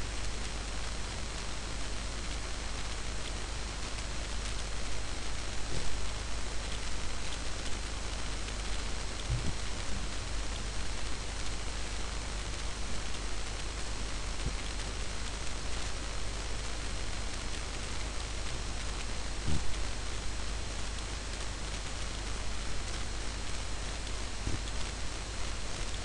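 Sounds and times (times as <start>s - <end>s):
steady recording hiss: 0.0s - 26.0s.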